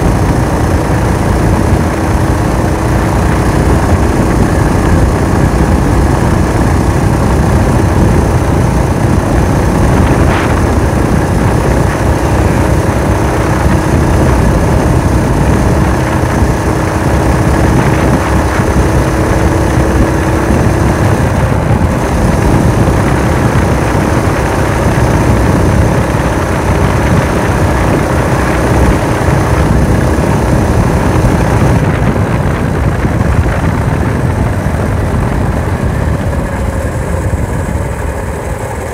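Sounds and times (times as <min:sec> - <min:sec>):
small engine running: 0:00.0 - 0:38.9
wind on microphone: 0:00.0 - 0:38.9.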